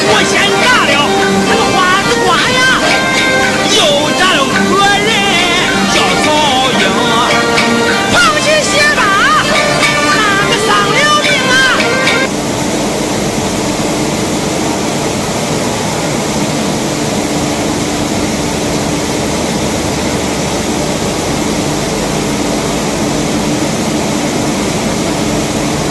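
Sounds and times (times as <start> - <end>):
mill machinery running: 0.0 - 25.9.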